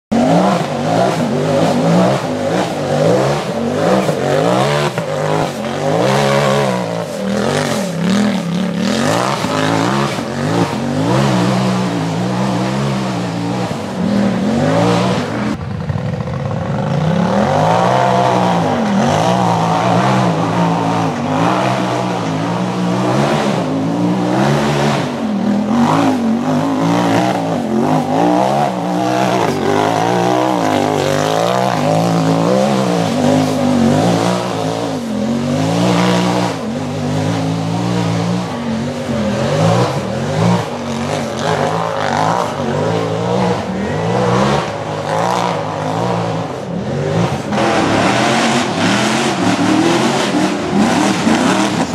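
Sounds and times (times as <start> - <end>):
buggy engine revving hard: 0.1 - 51.9.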